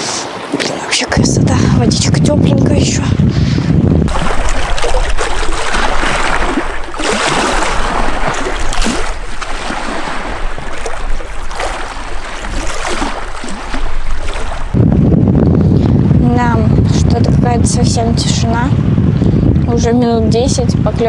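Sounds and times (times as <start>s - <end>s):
water splashing against boat: 0.0s - 21.0s.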